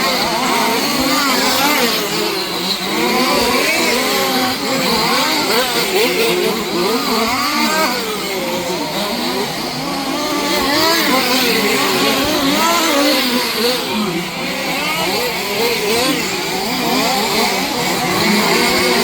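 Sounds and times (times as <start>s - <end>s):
rc car engines revving: 0.0s - 19.0s.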